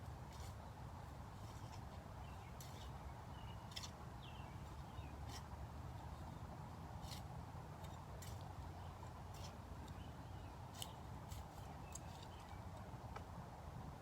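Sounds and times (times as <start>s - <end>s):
soil being dug by hand: 0.0s - 12.8s.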